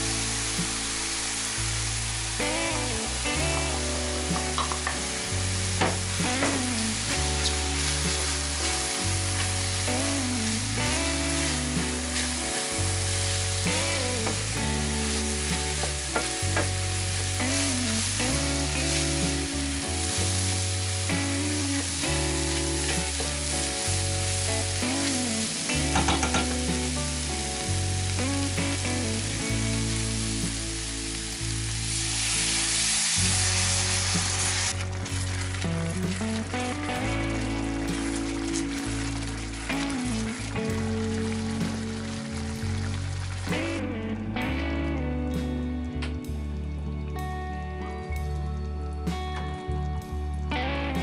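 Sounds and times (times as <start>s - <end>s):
mushrooms sizzling in butter: 0.0s - 43.8s
background music: 0.0s - 51.0s.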